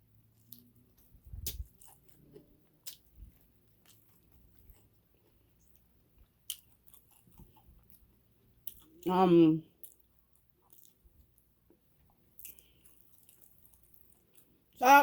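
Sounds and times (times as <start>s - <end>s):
person chewing food: 0.2s - 9.1s, 9.8s - 14.8s.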